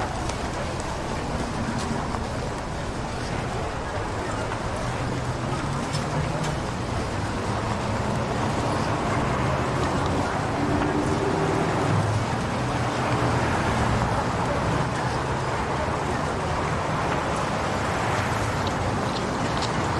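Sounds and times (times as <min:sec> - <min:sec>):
murmur of voices: 0:00.0 - 0:19.9
traffic: 0:00.0 - 0:19.9
vehicle engine: 0:00.0 - 0:19.9.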